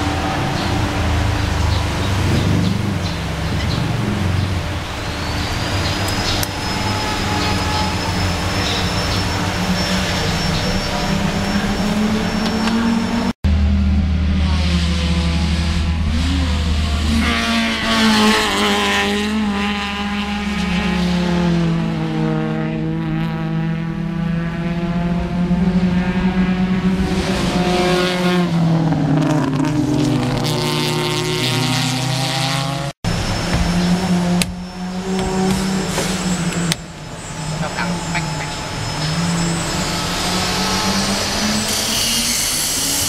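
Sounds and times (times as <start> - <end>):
race car engines running: 0.0 - 43.0.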